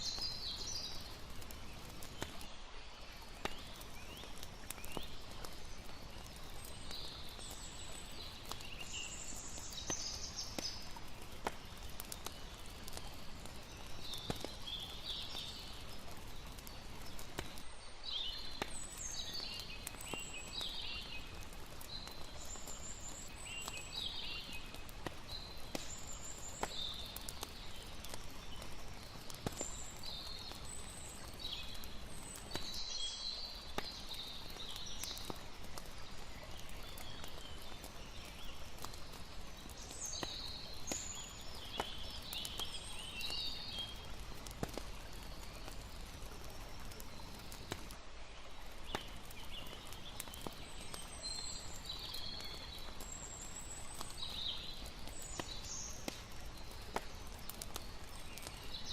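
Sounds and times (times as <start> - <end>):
flowing water: 0.0 - 55.4
campfire crackling: 0.0 - 58.9.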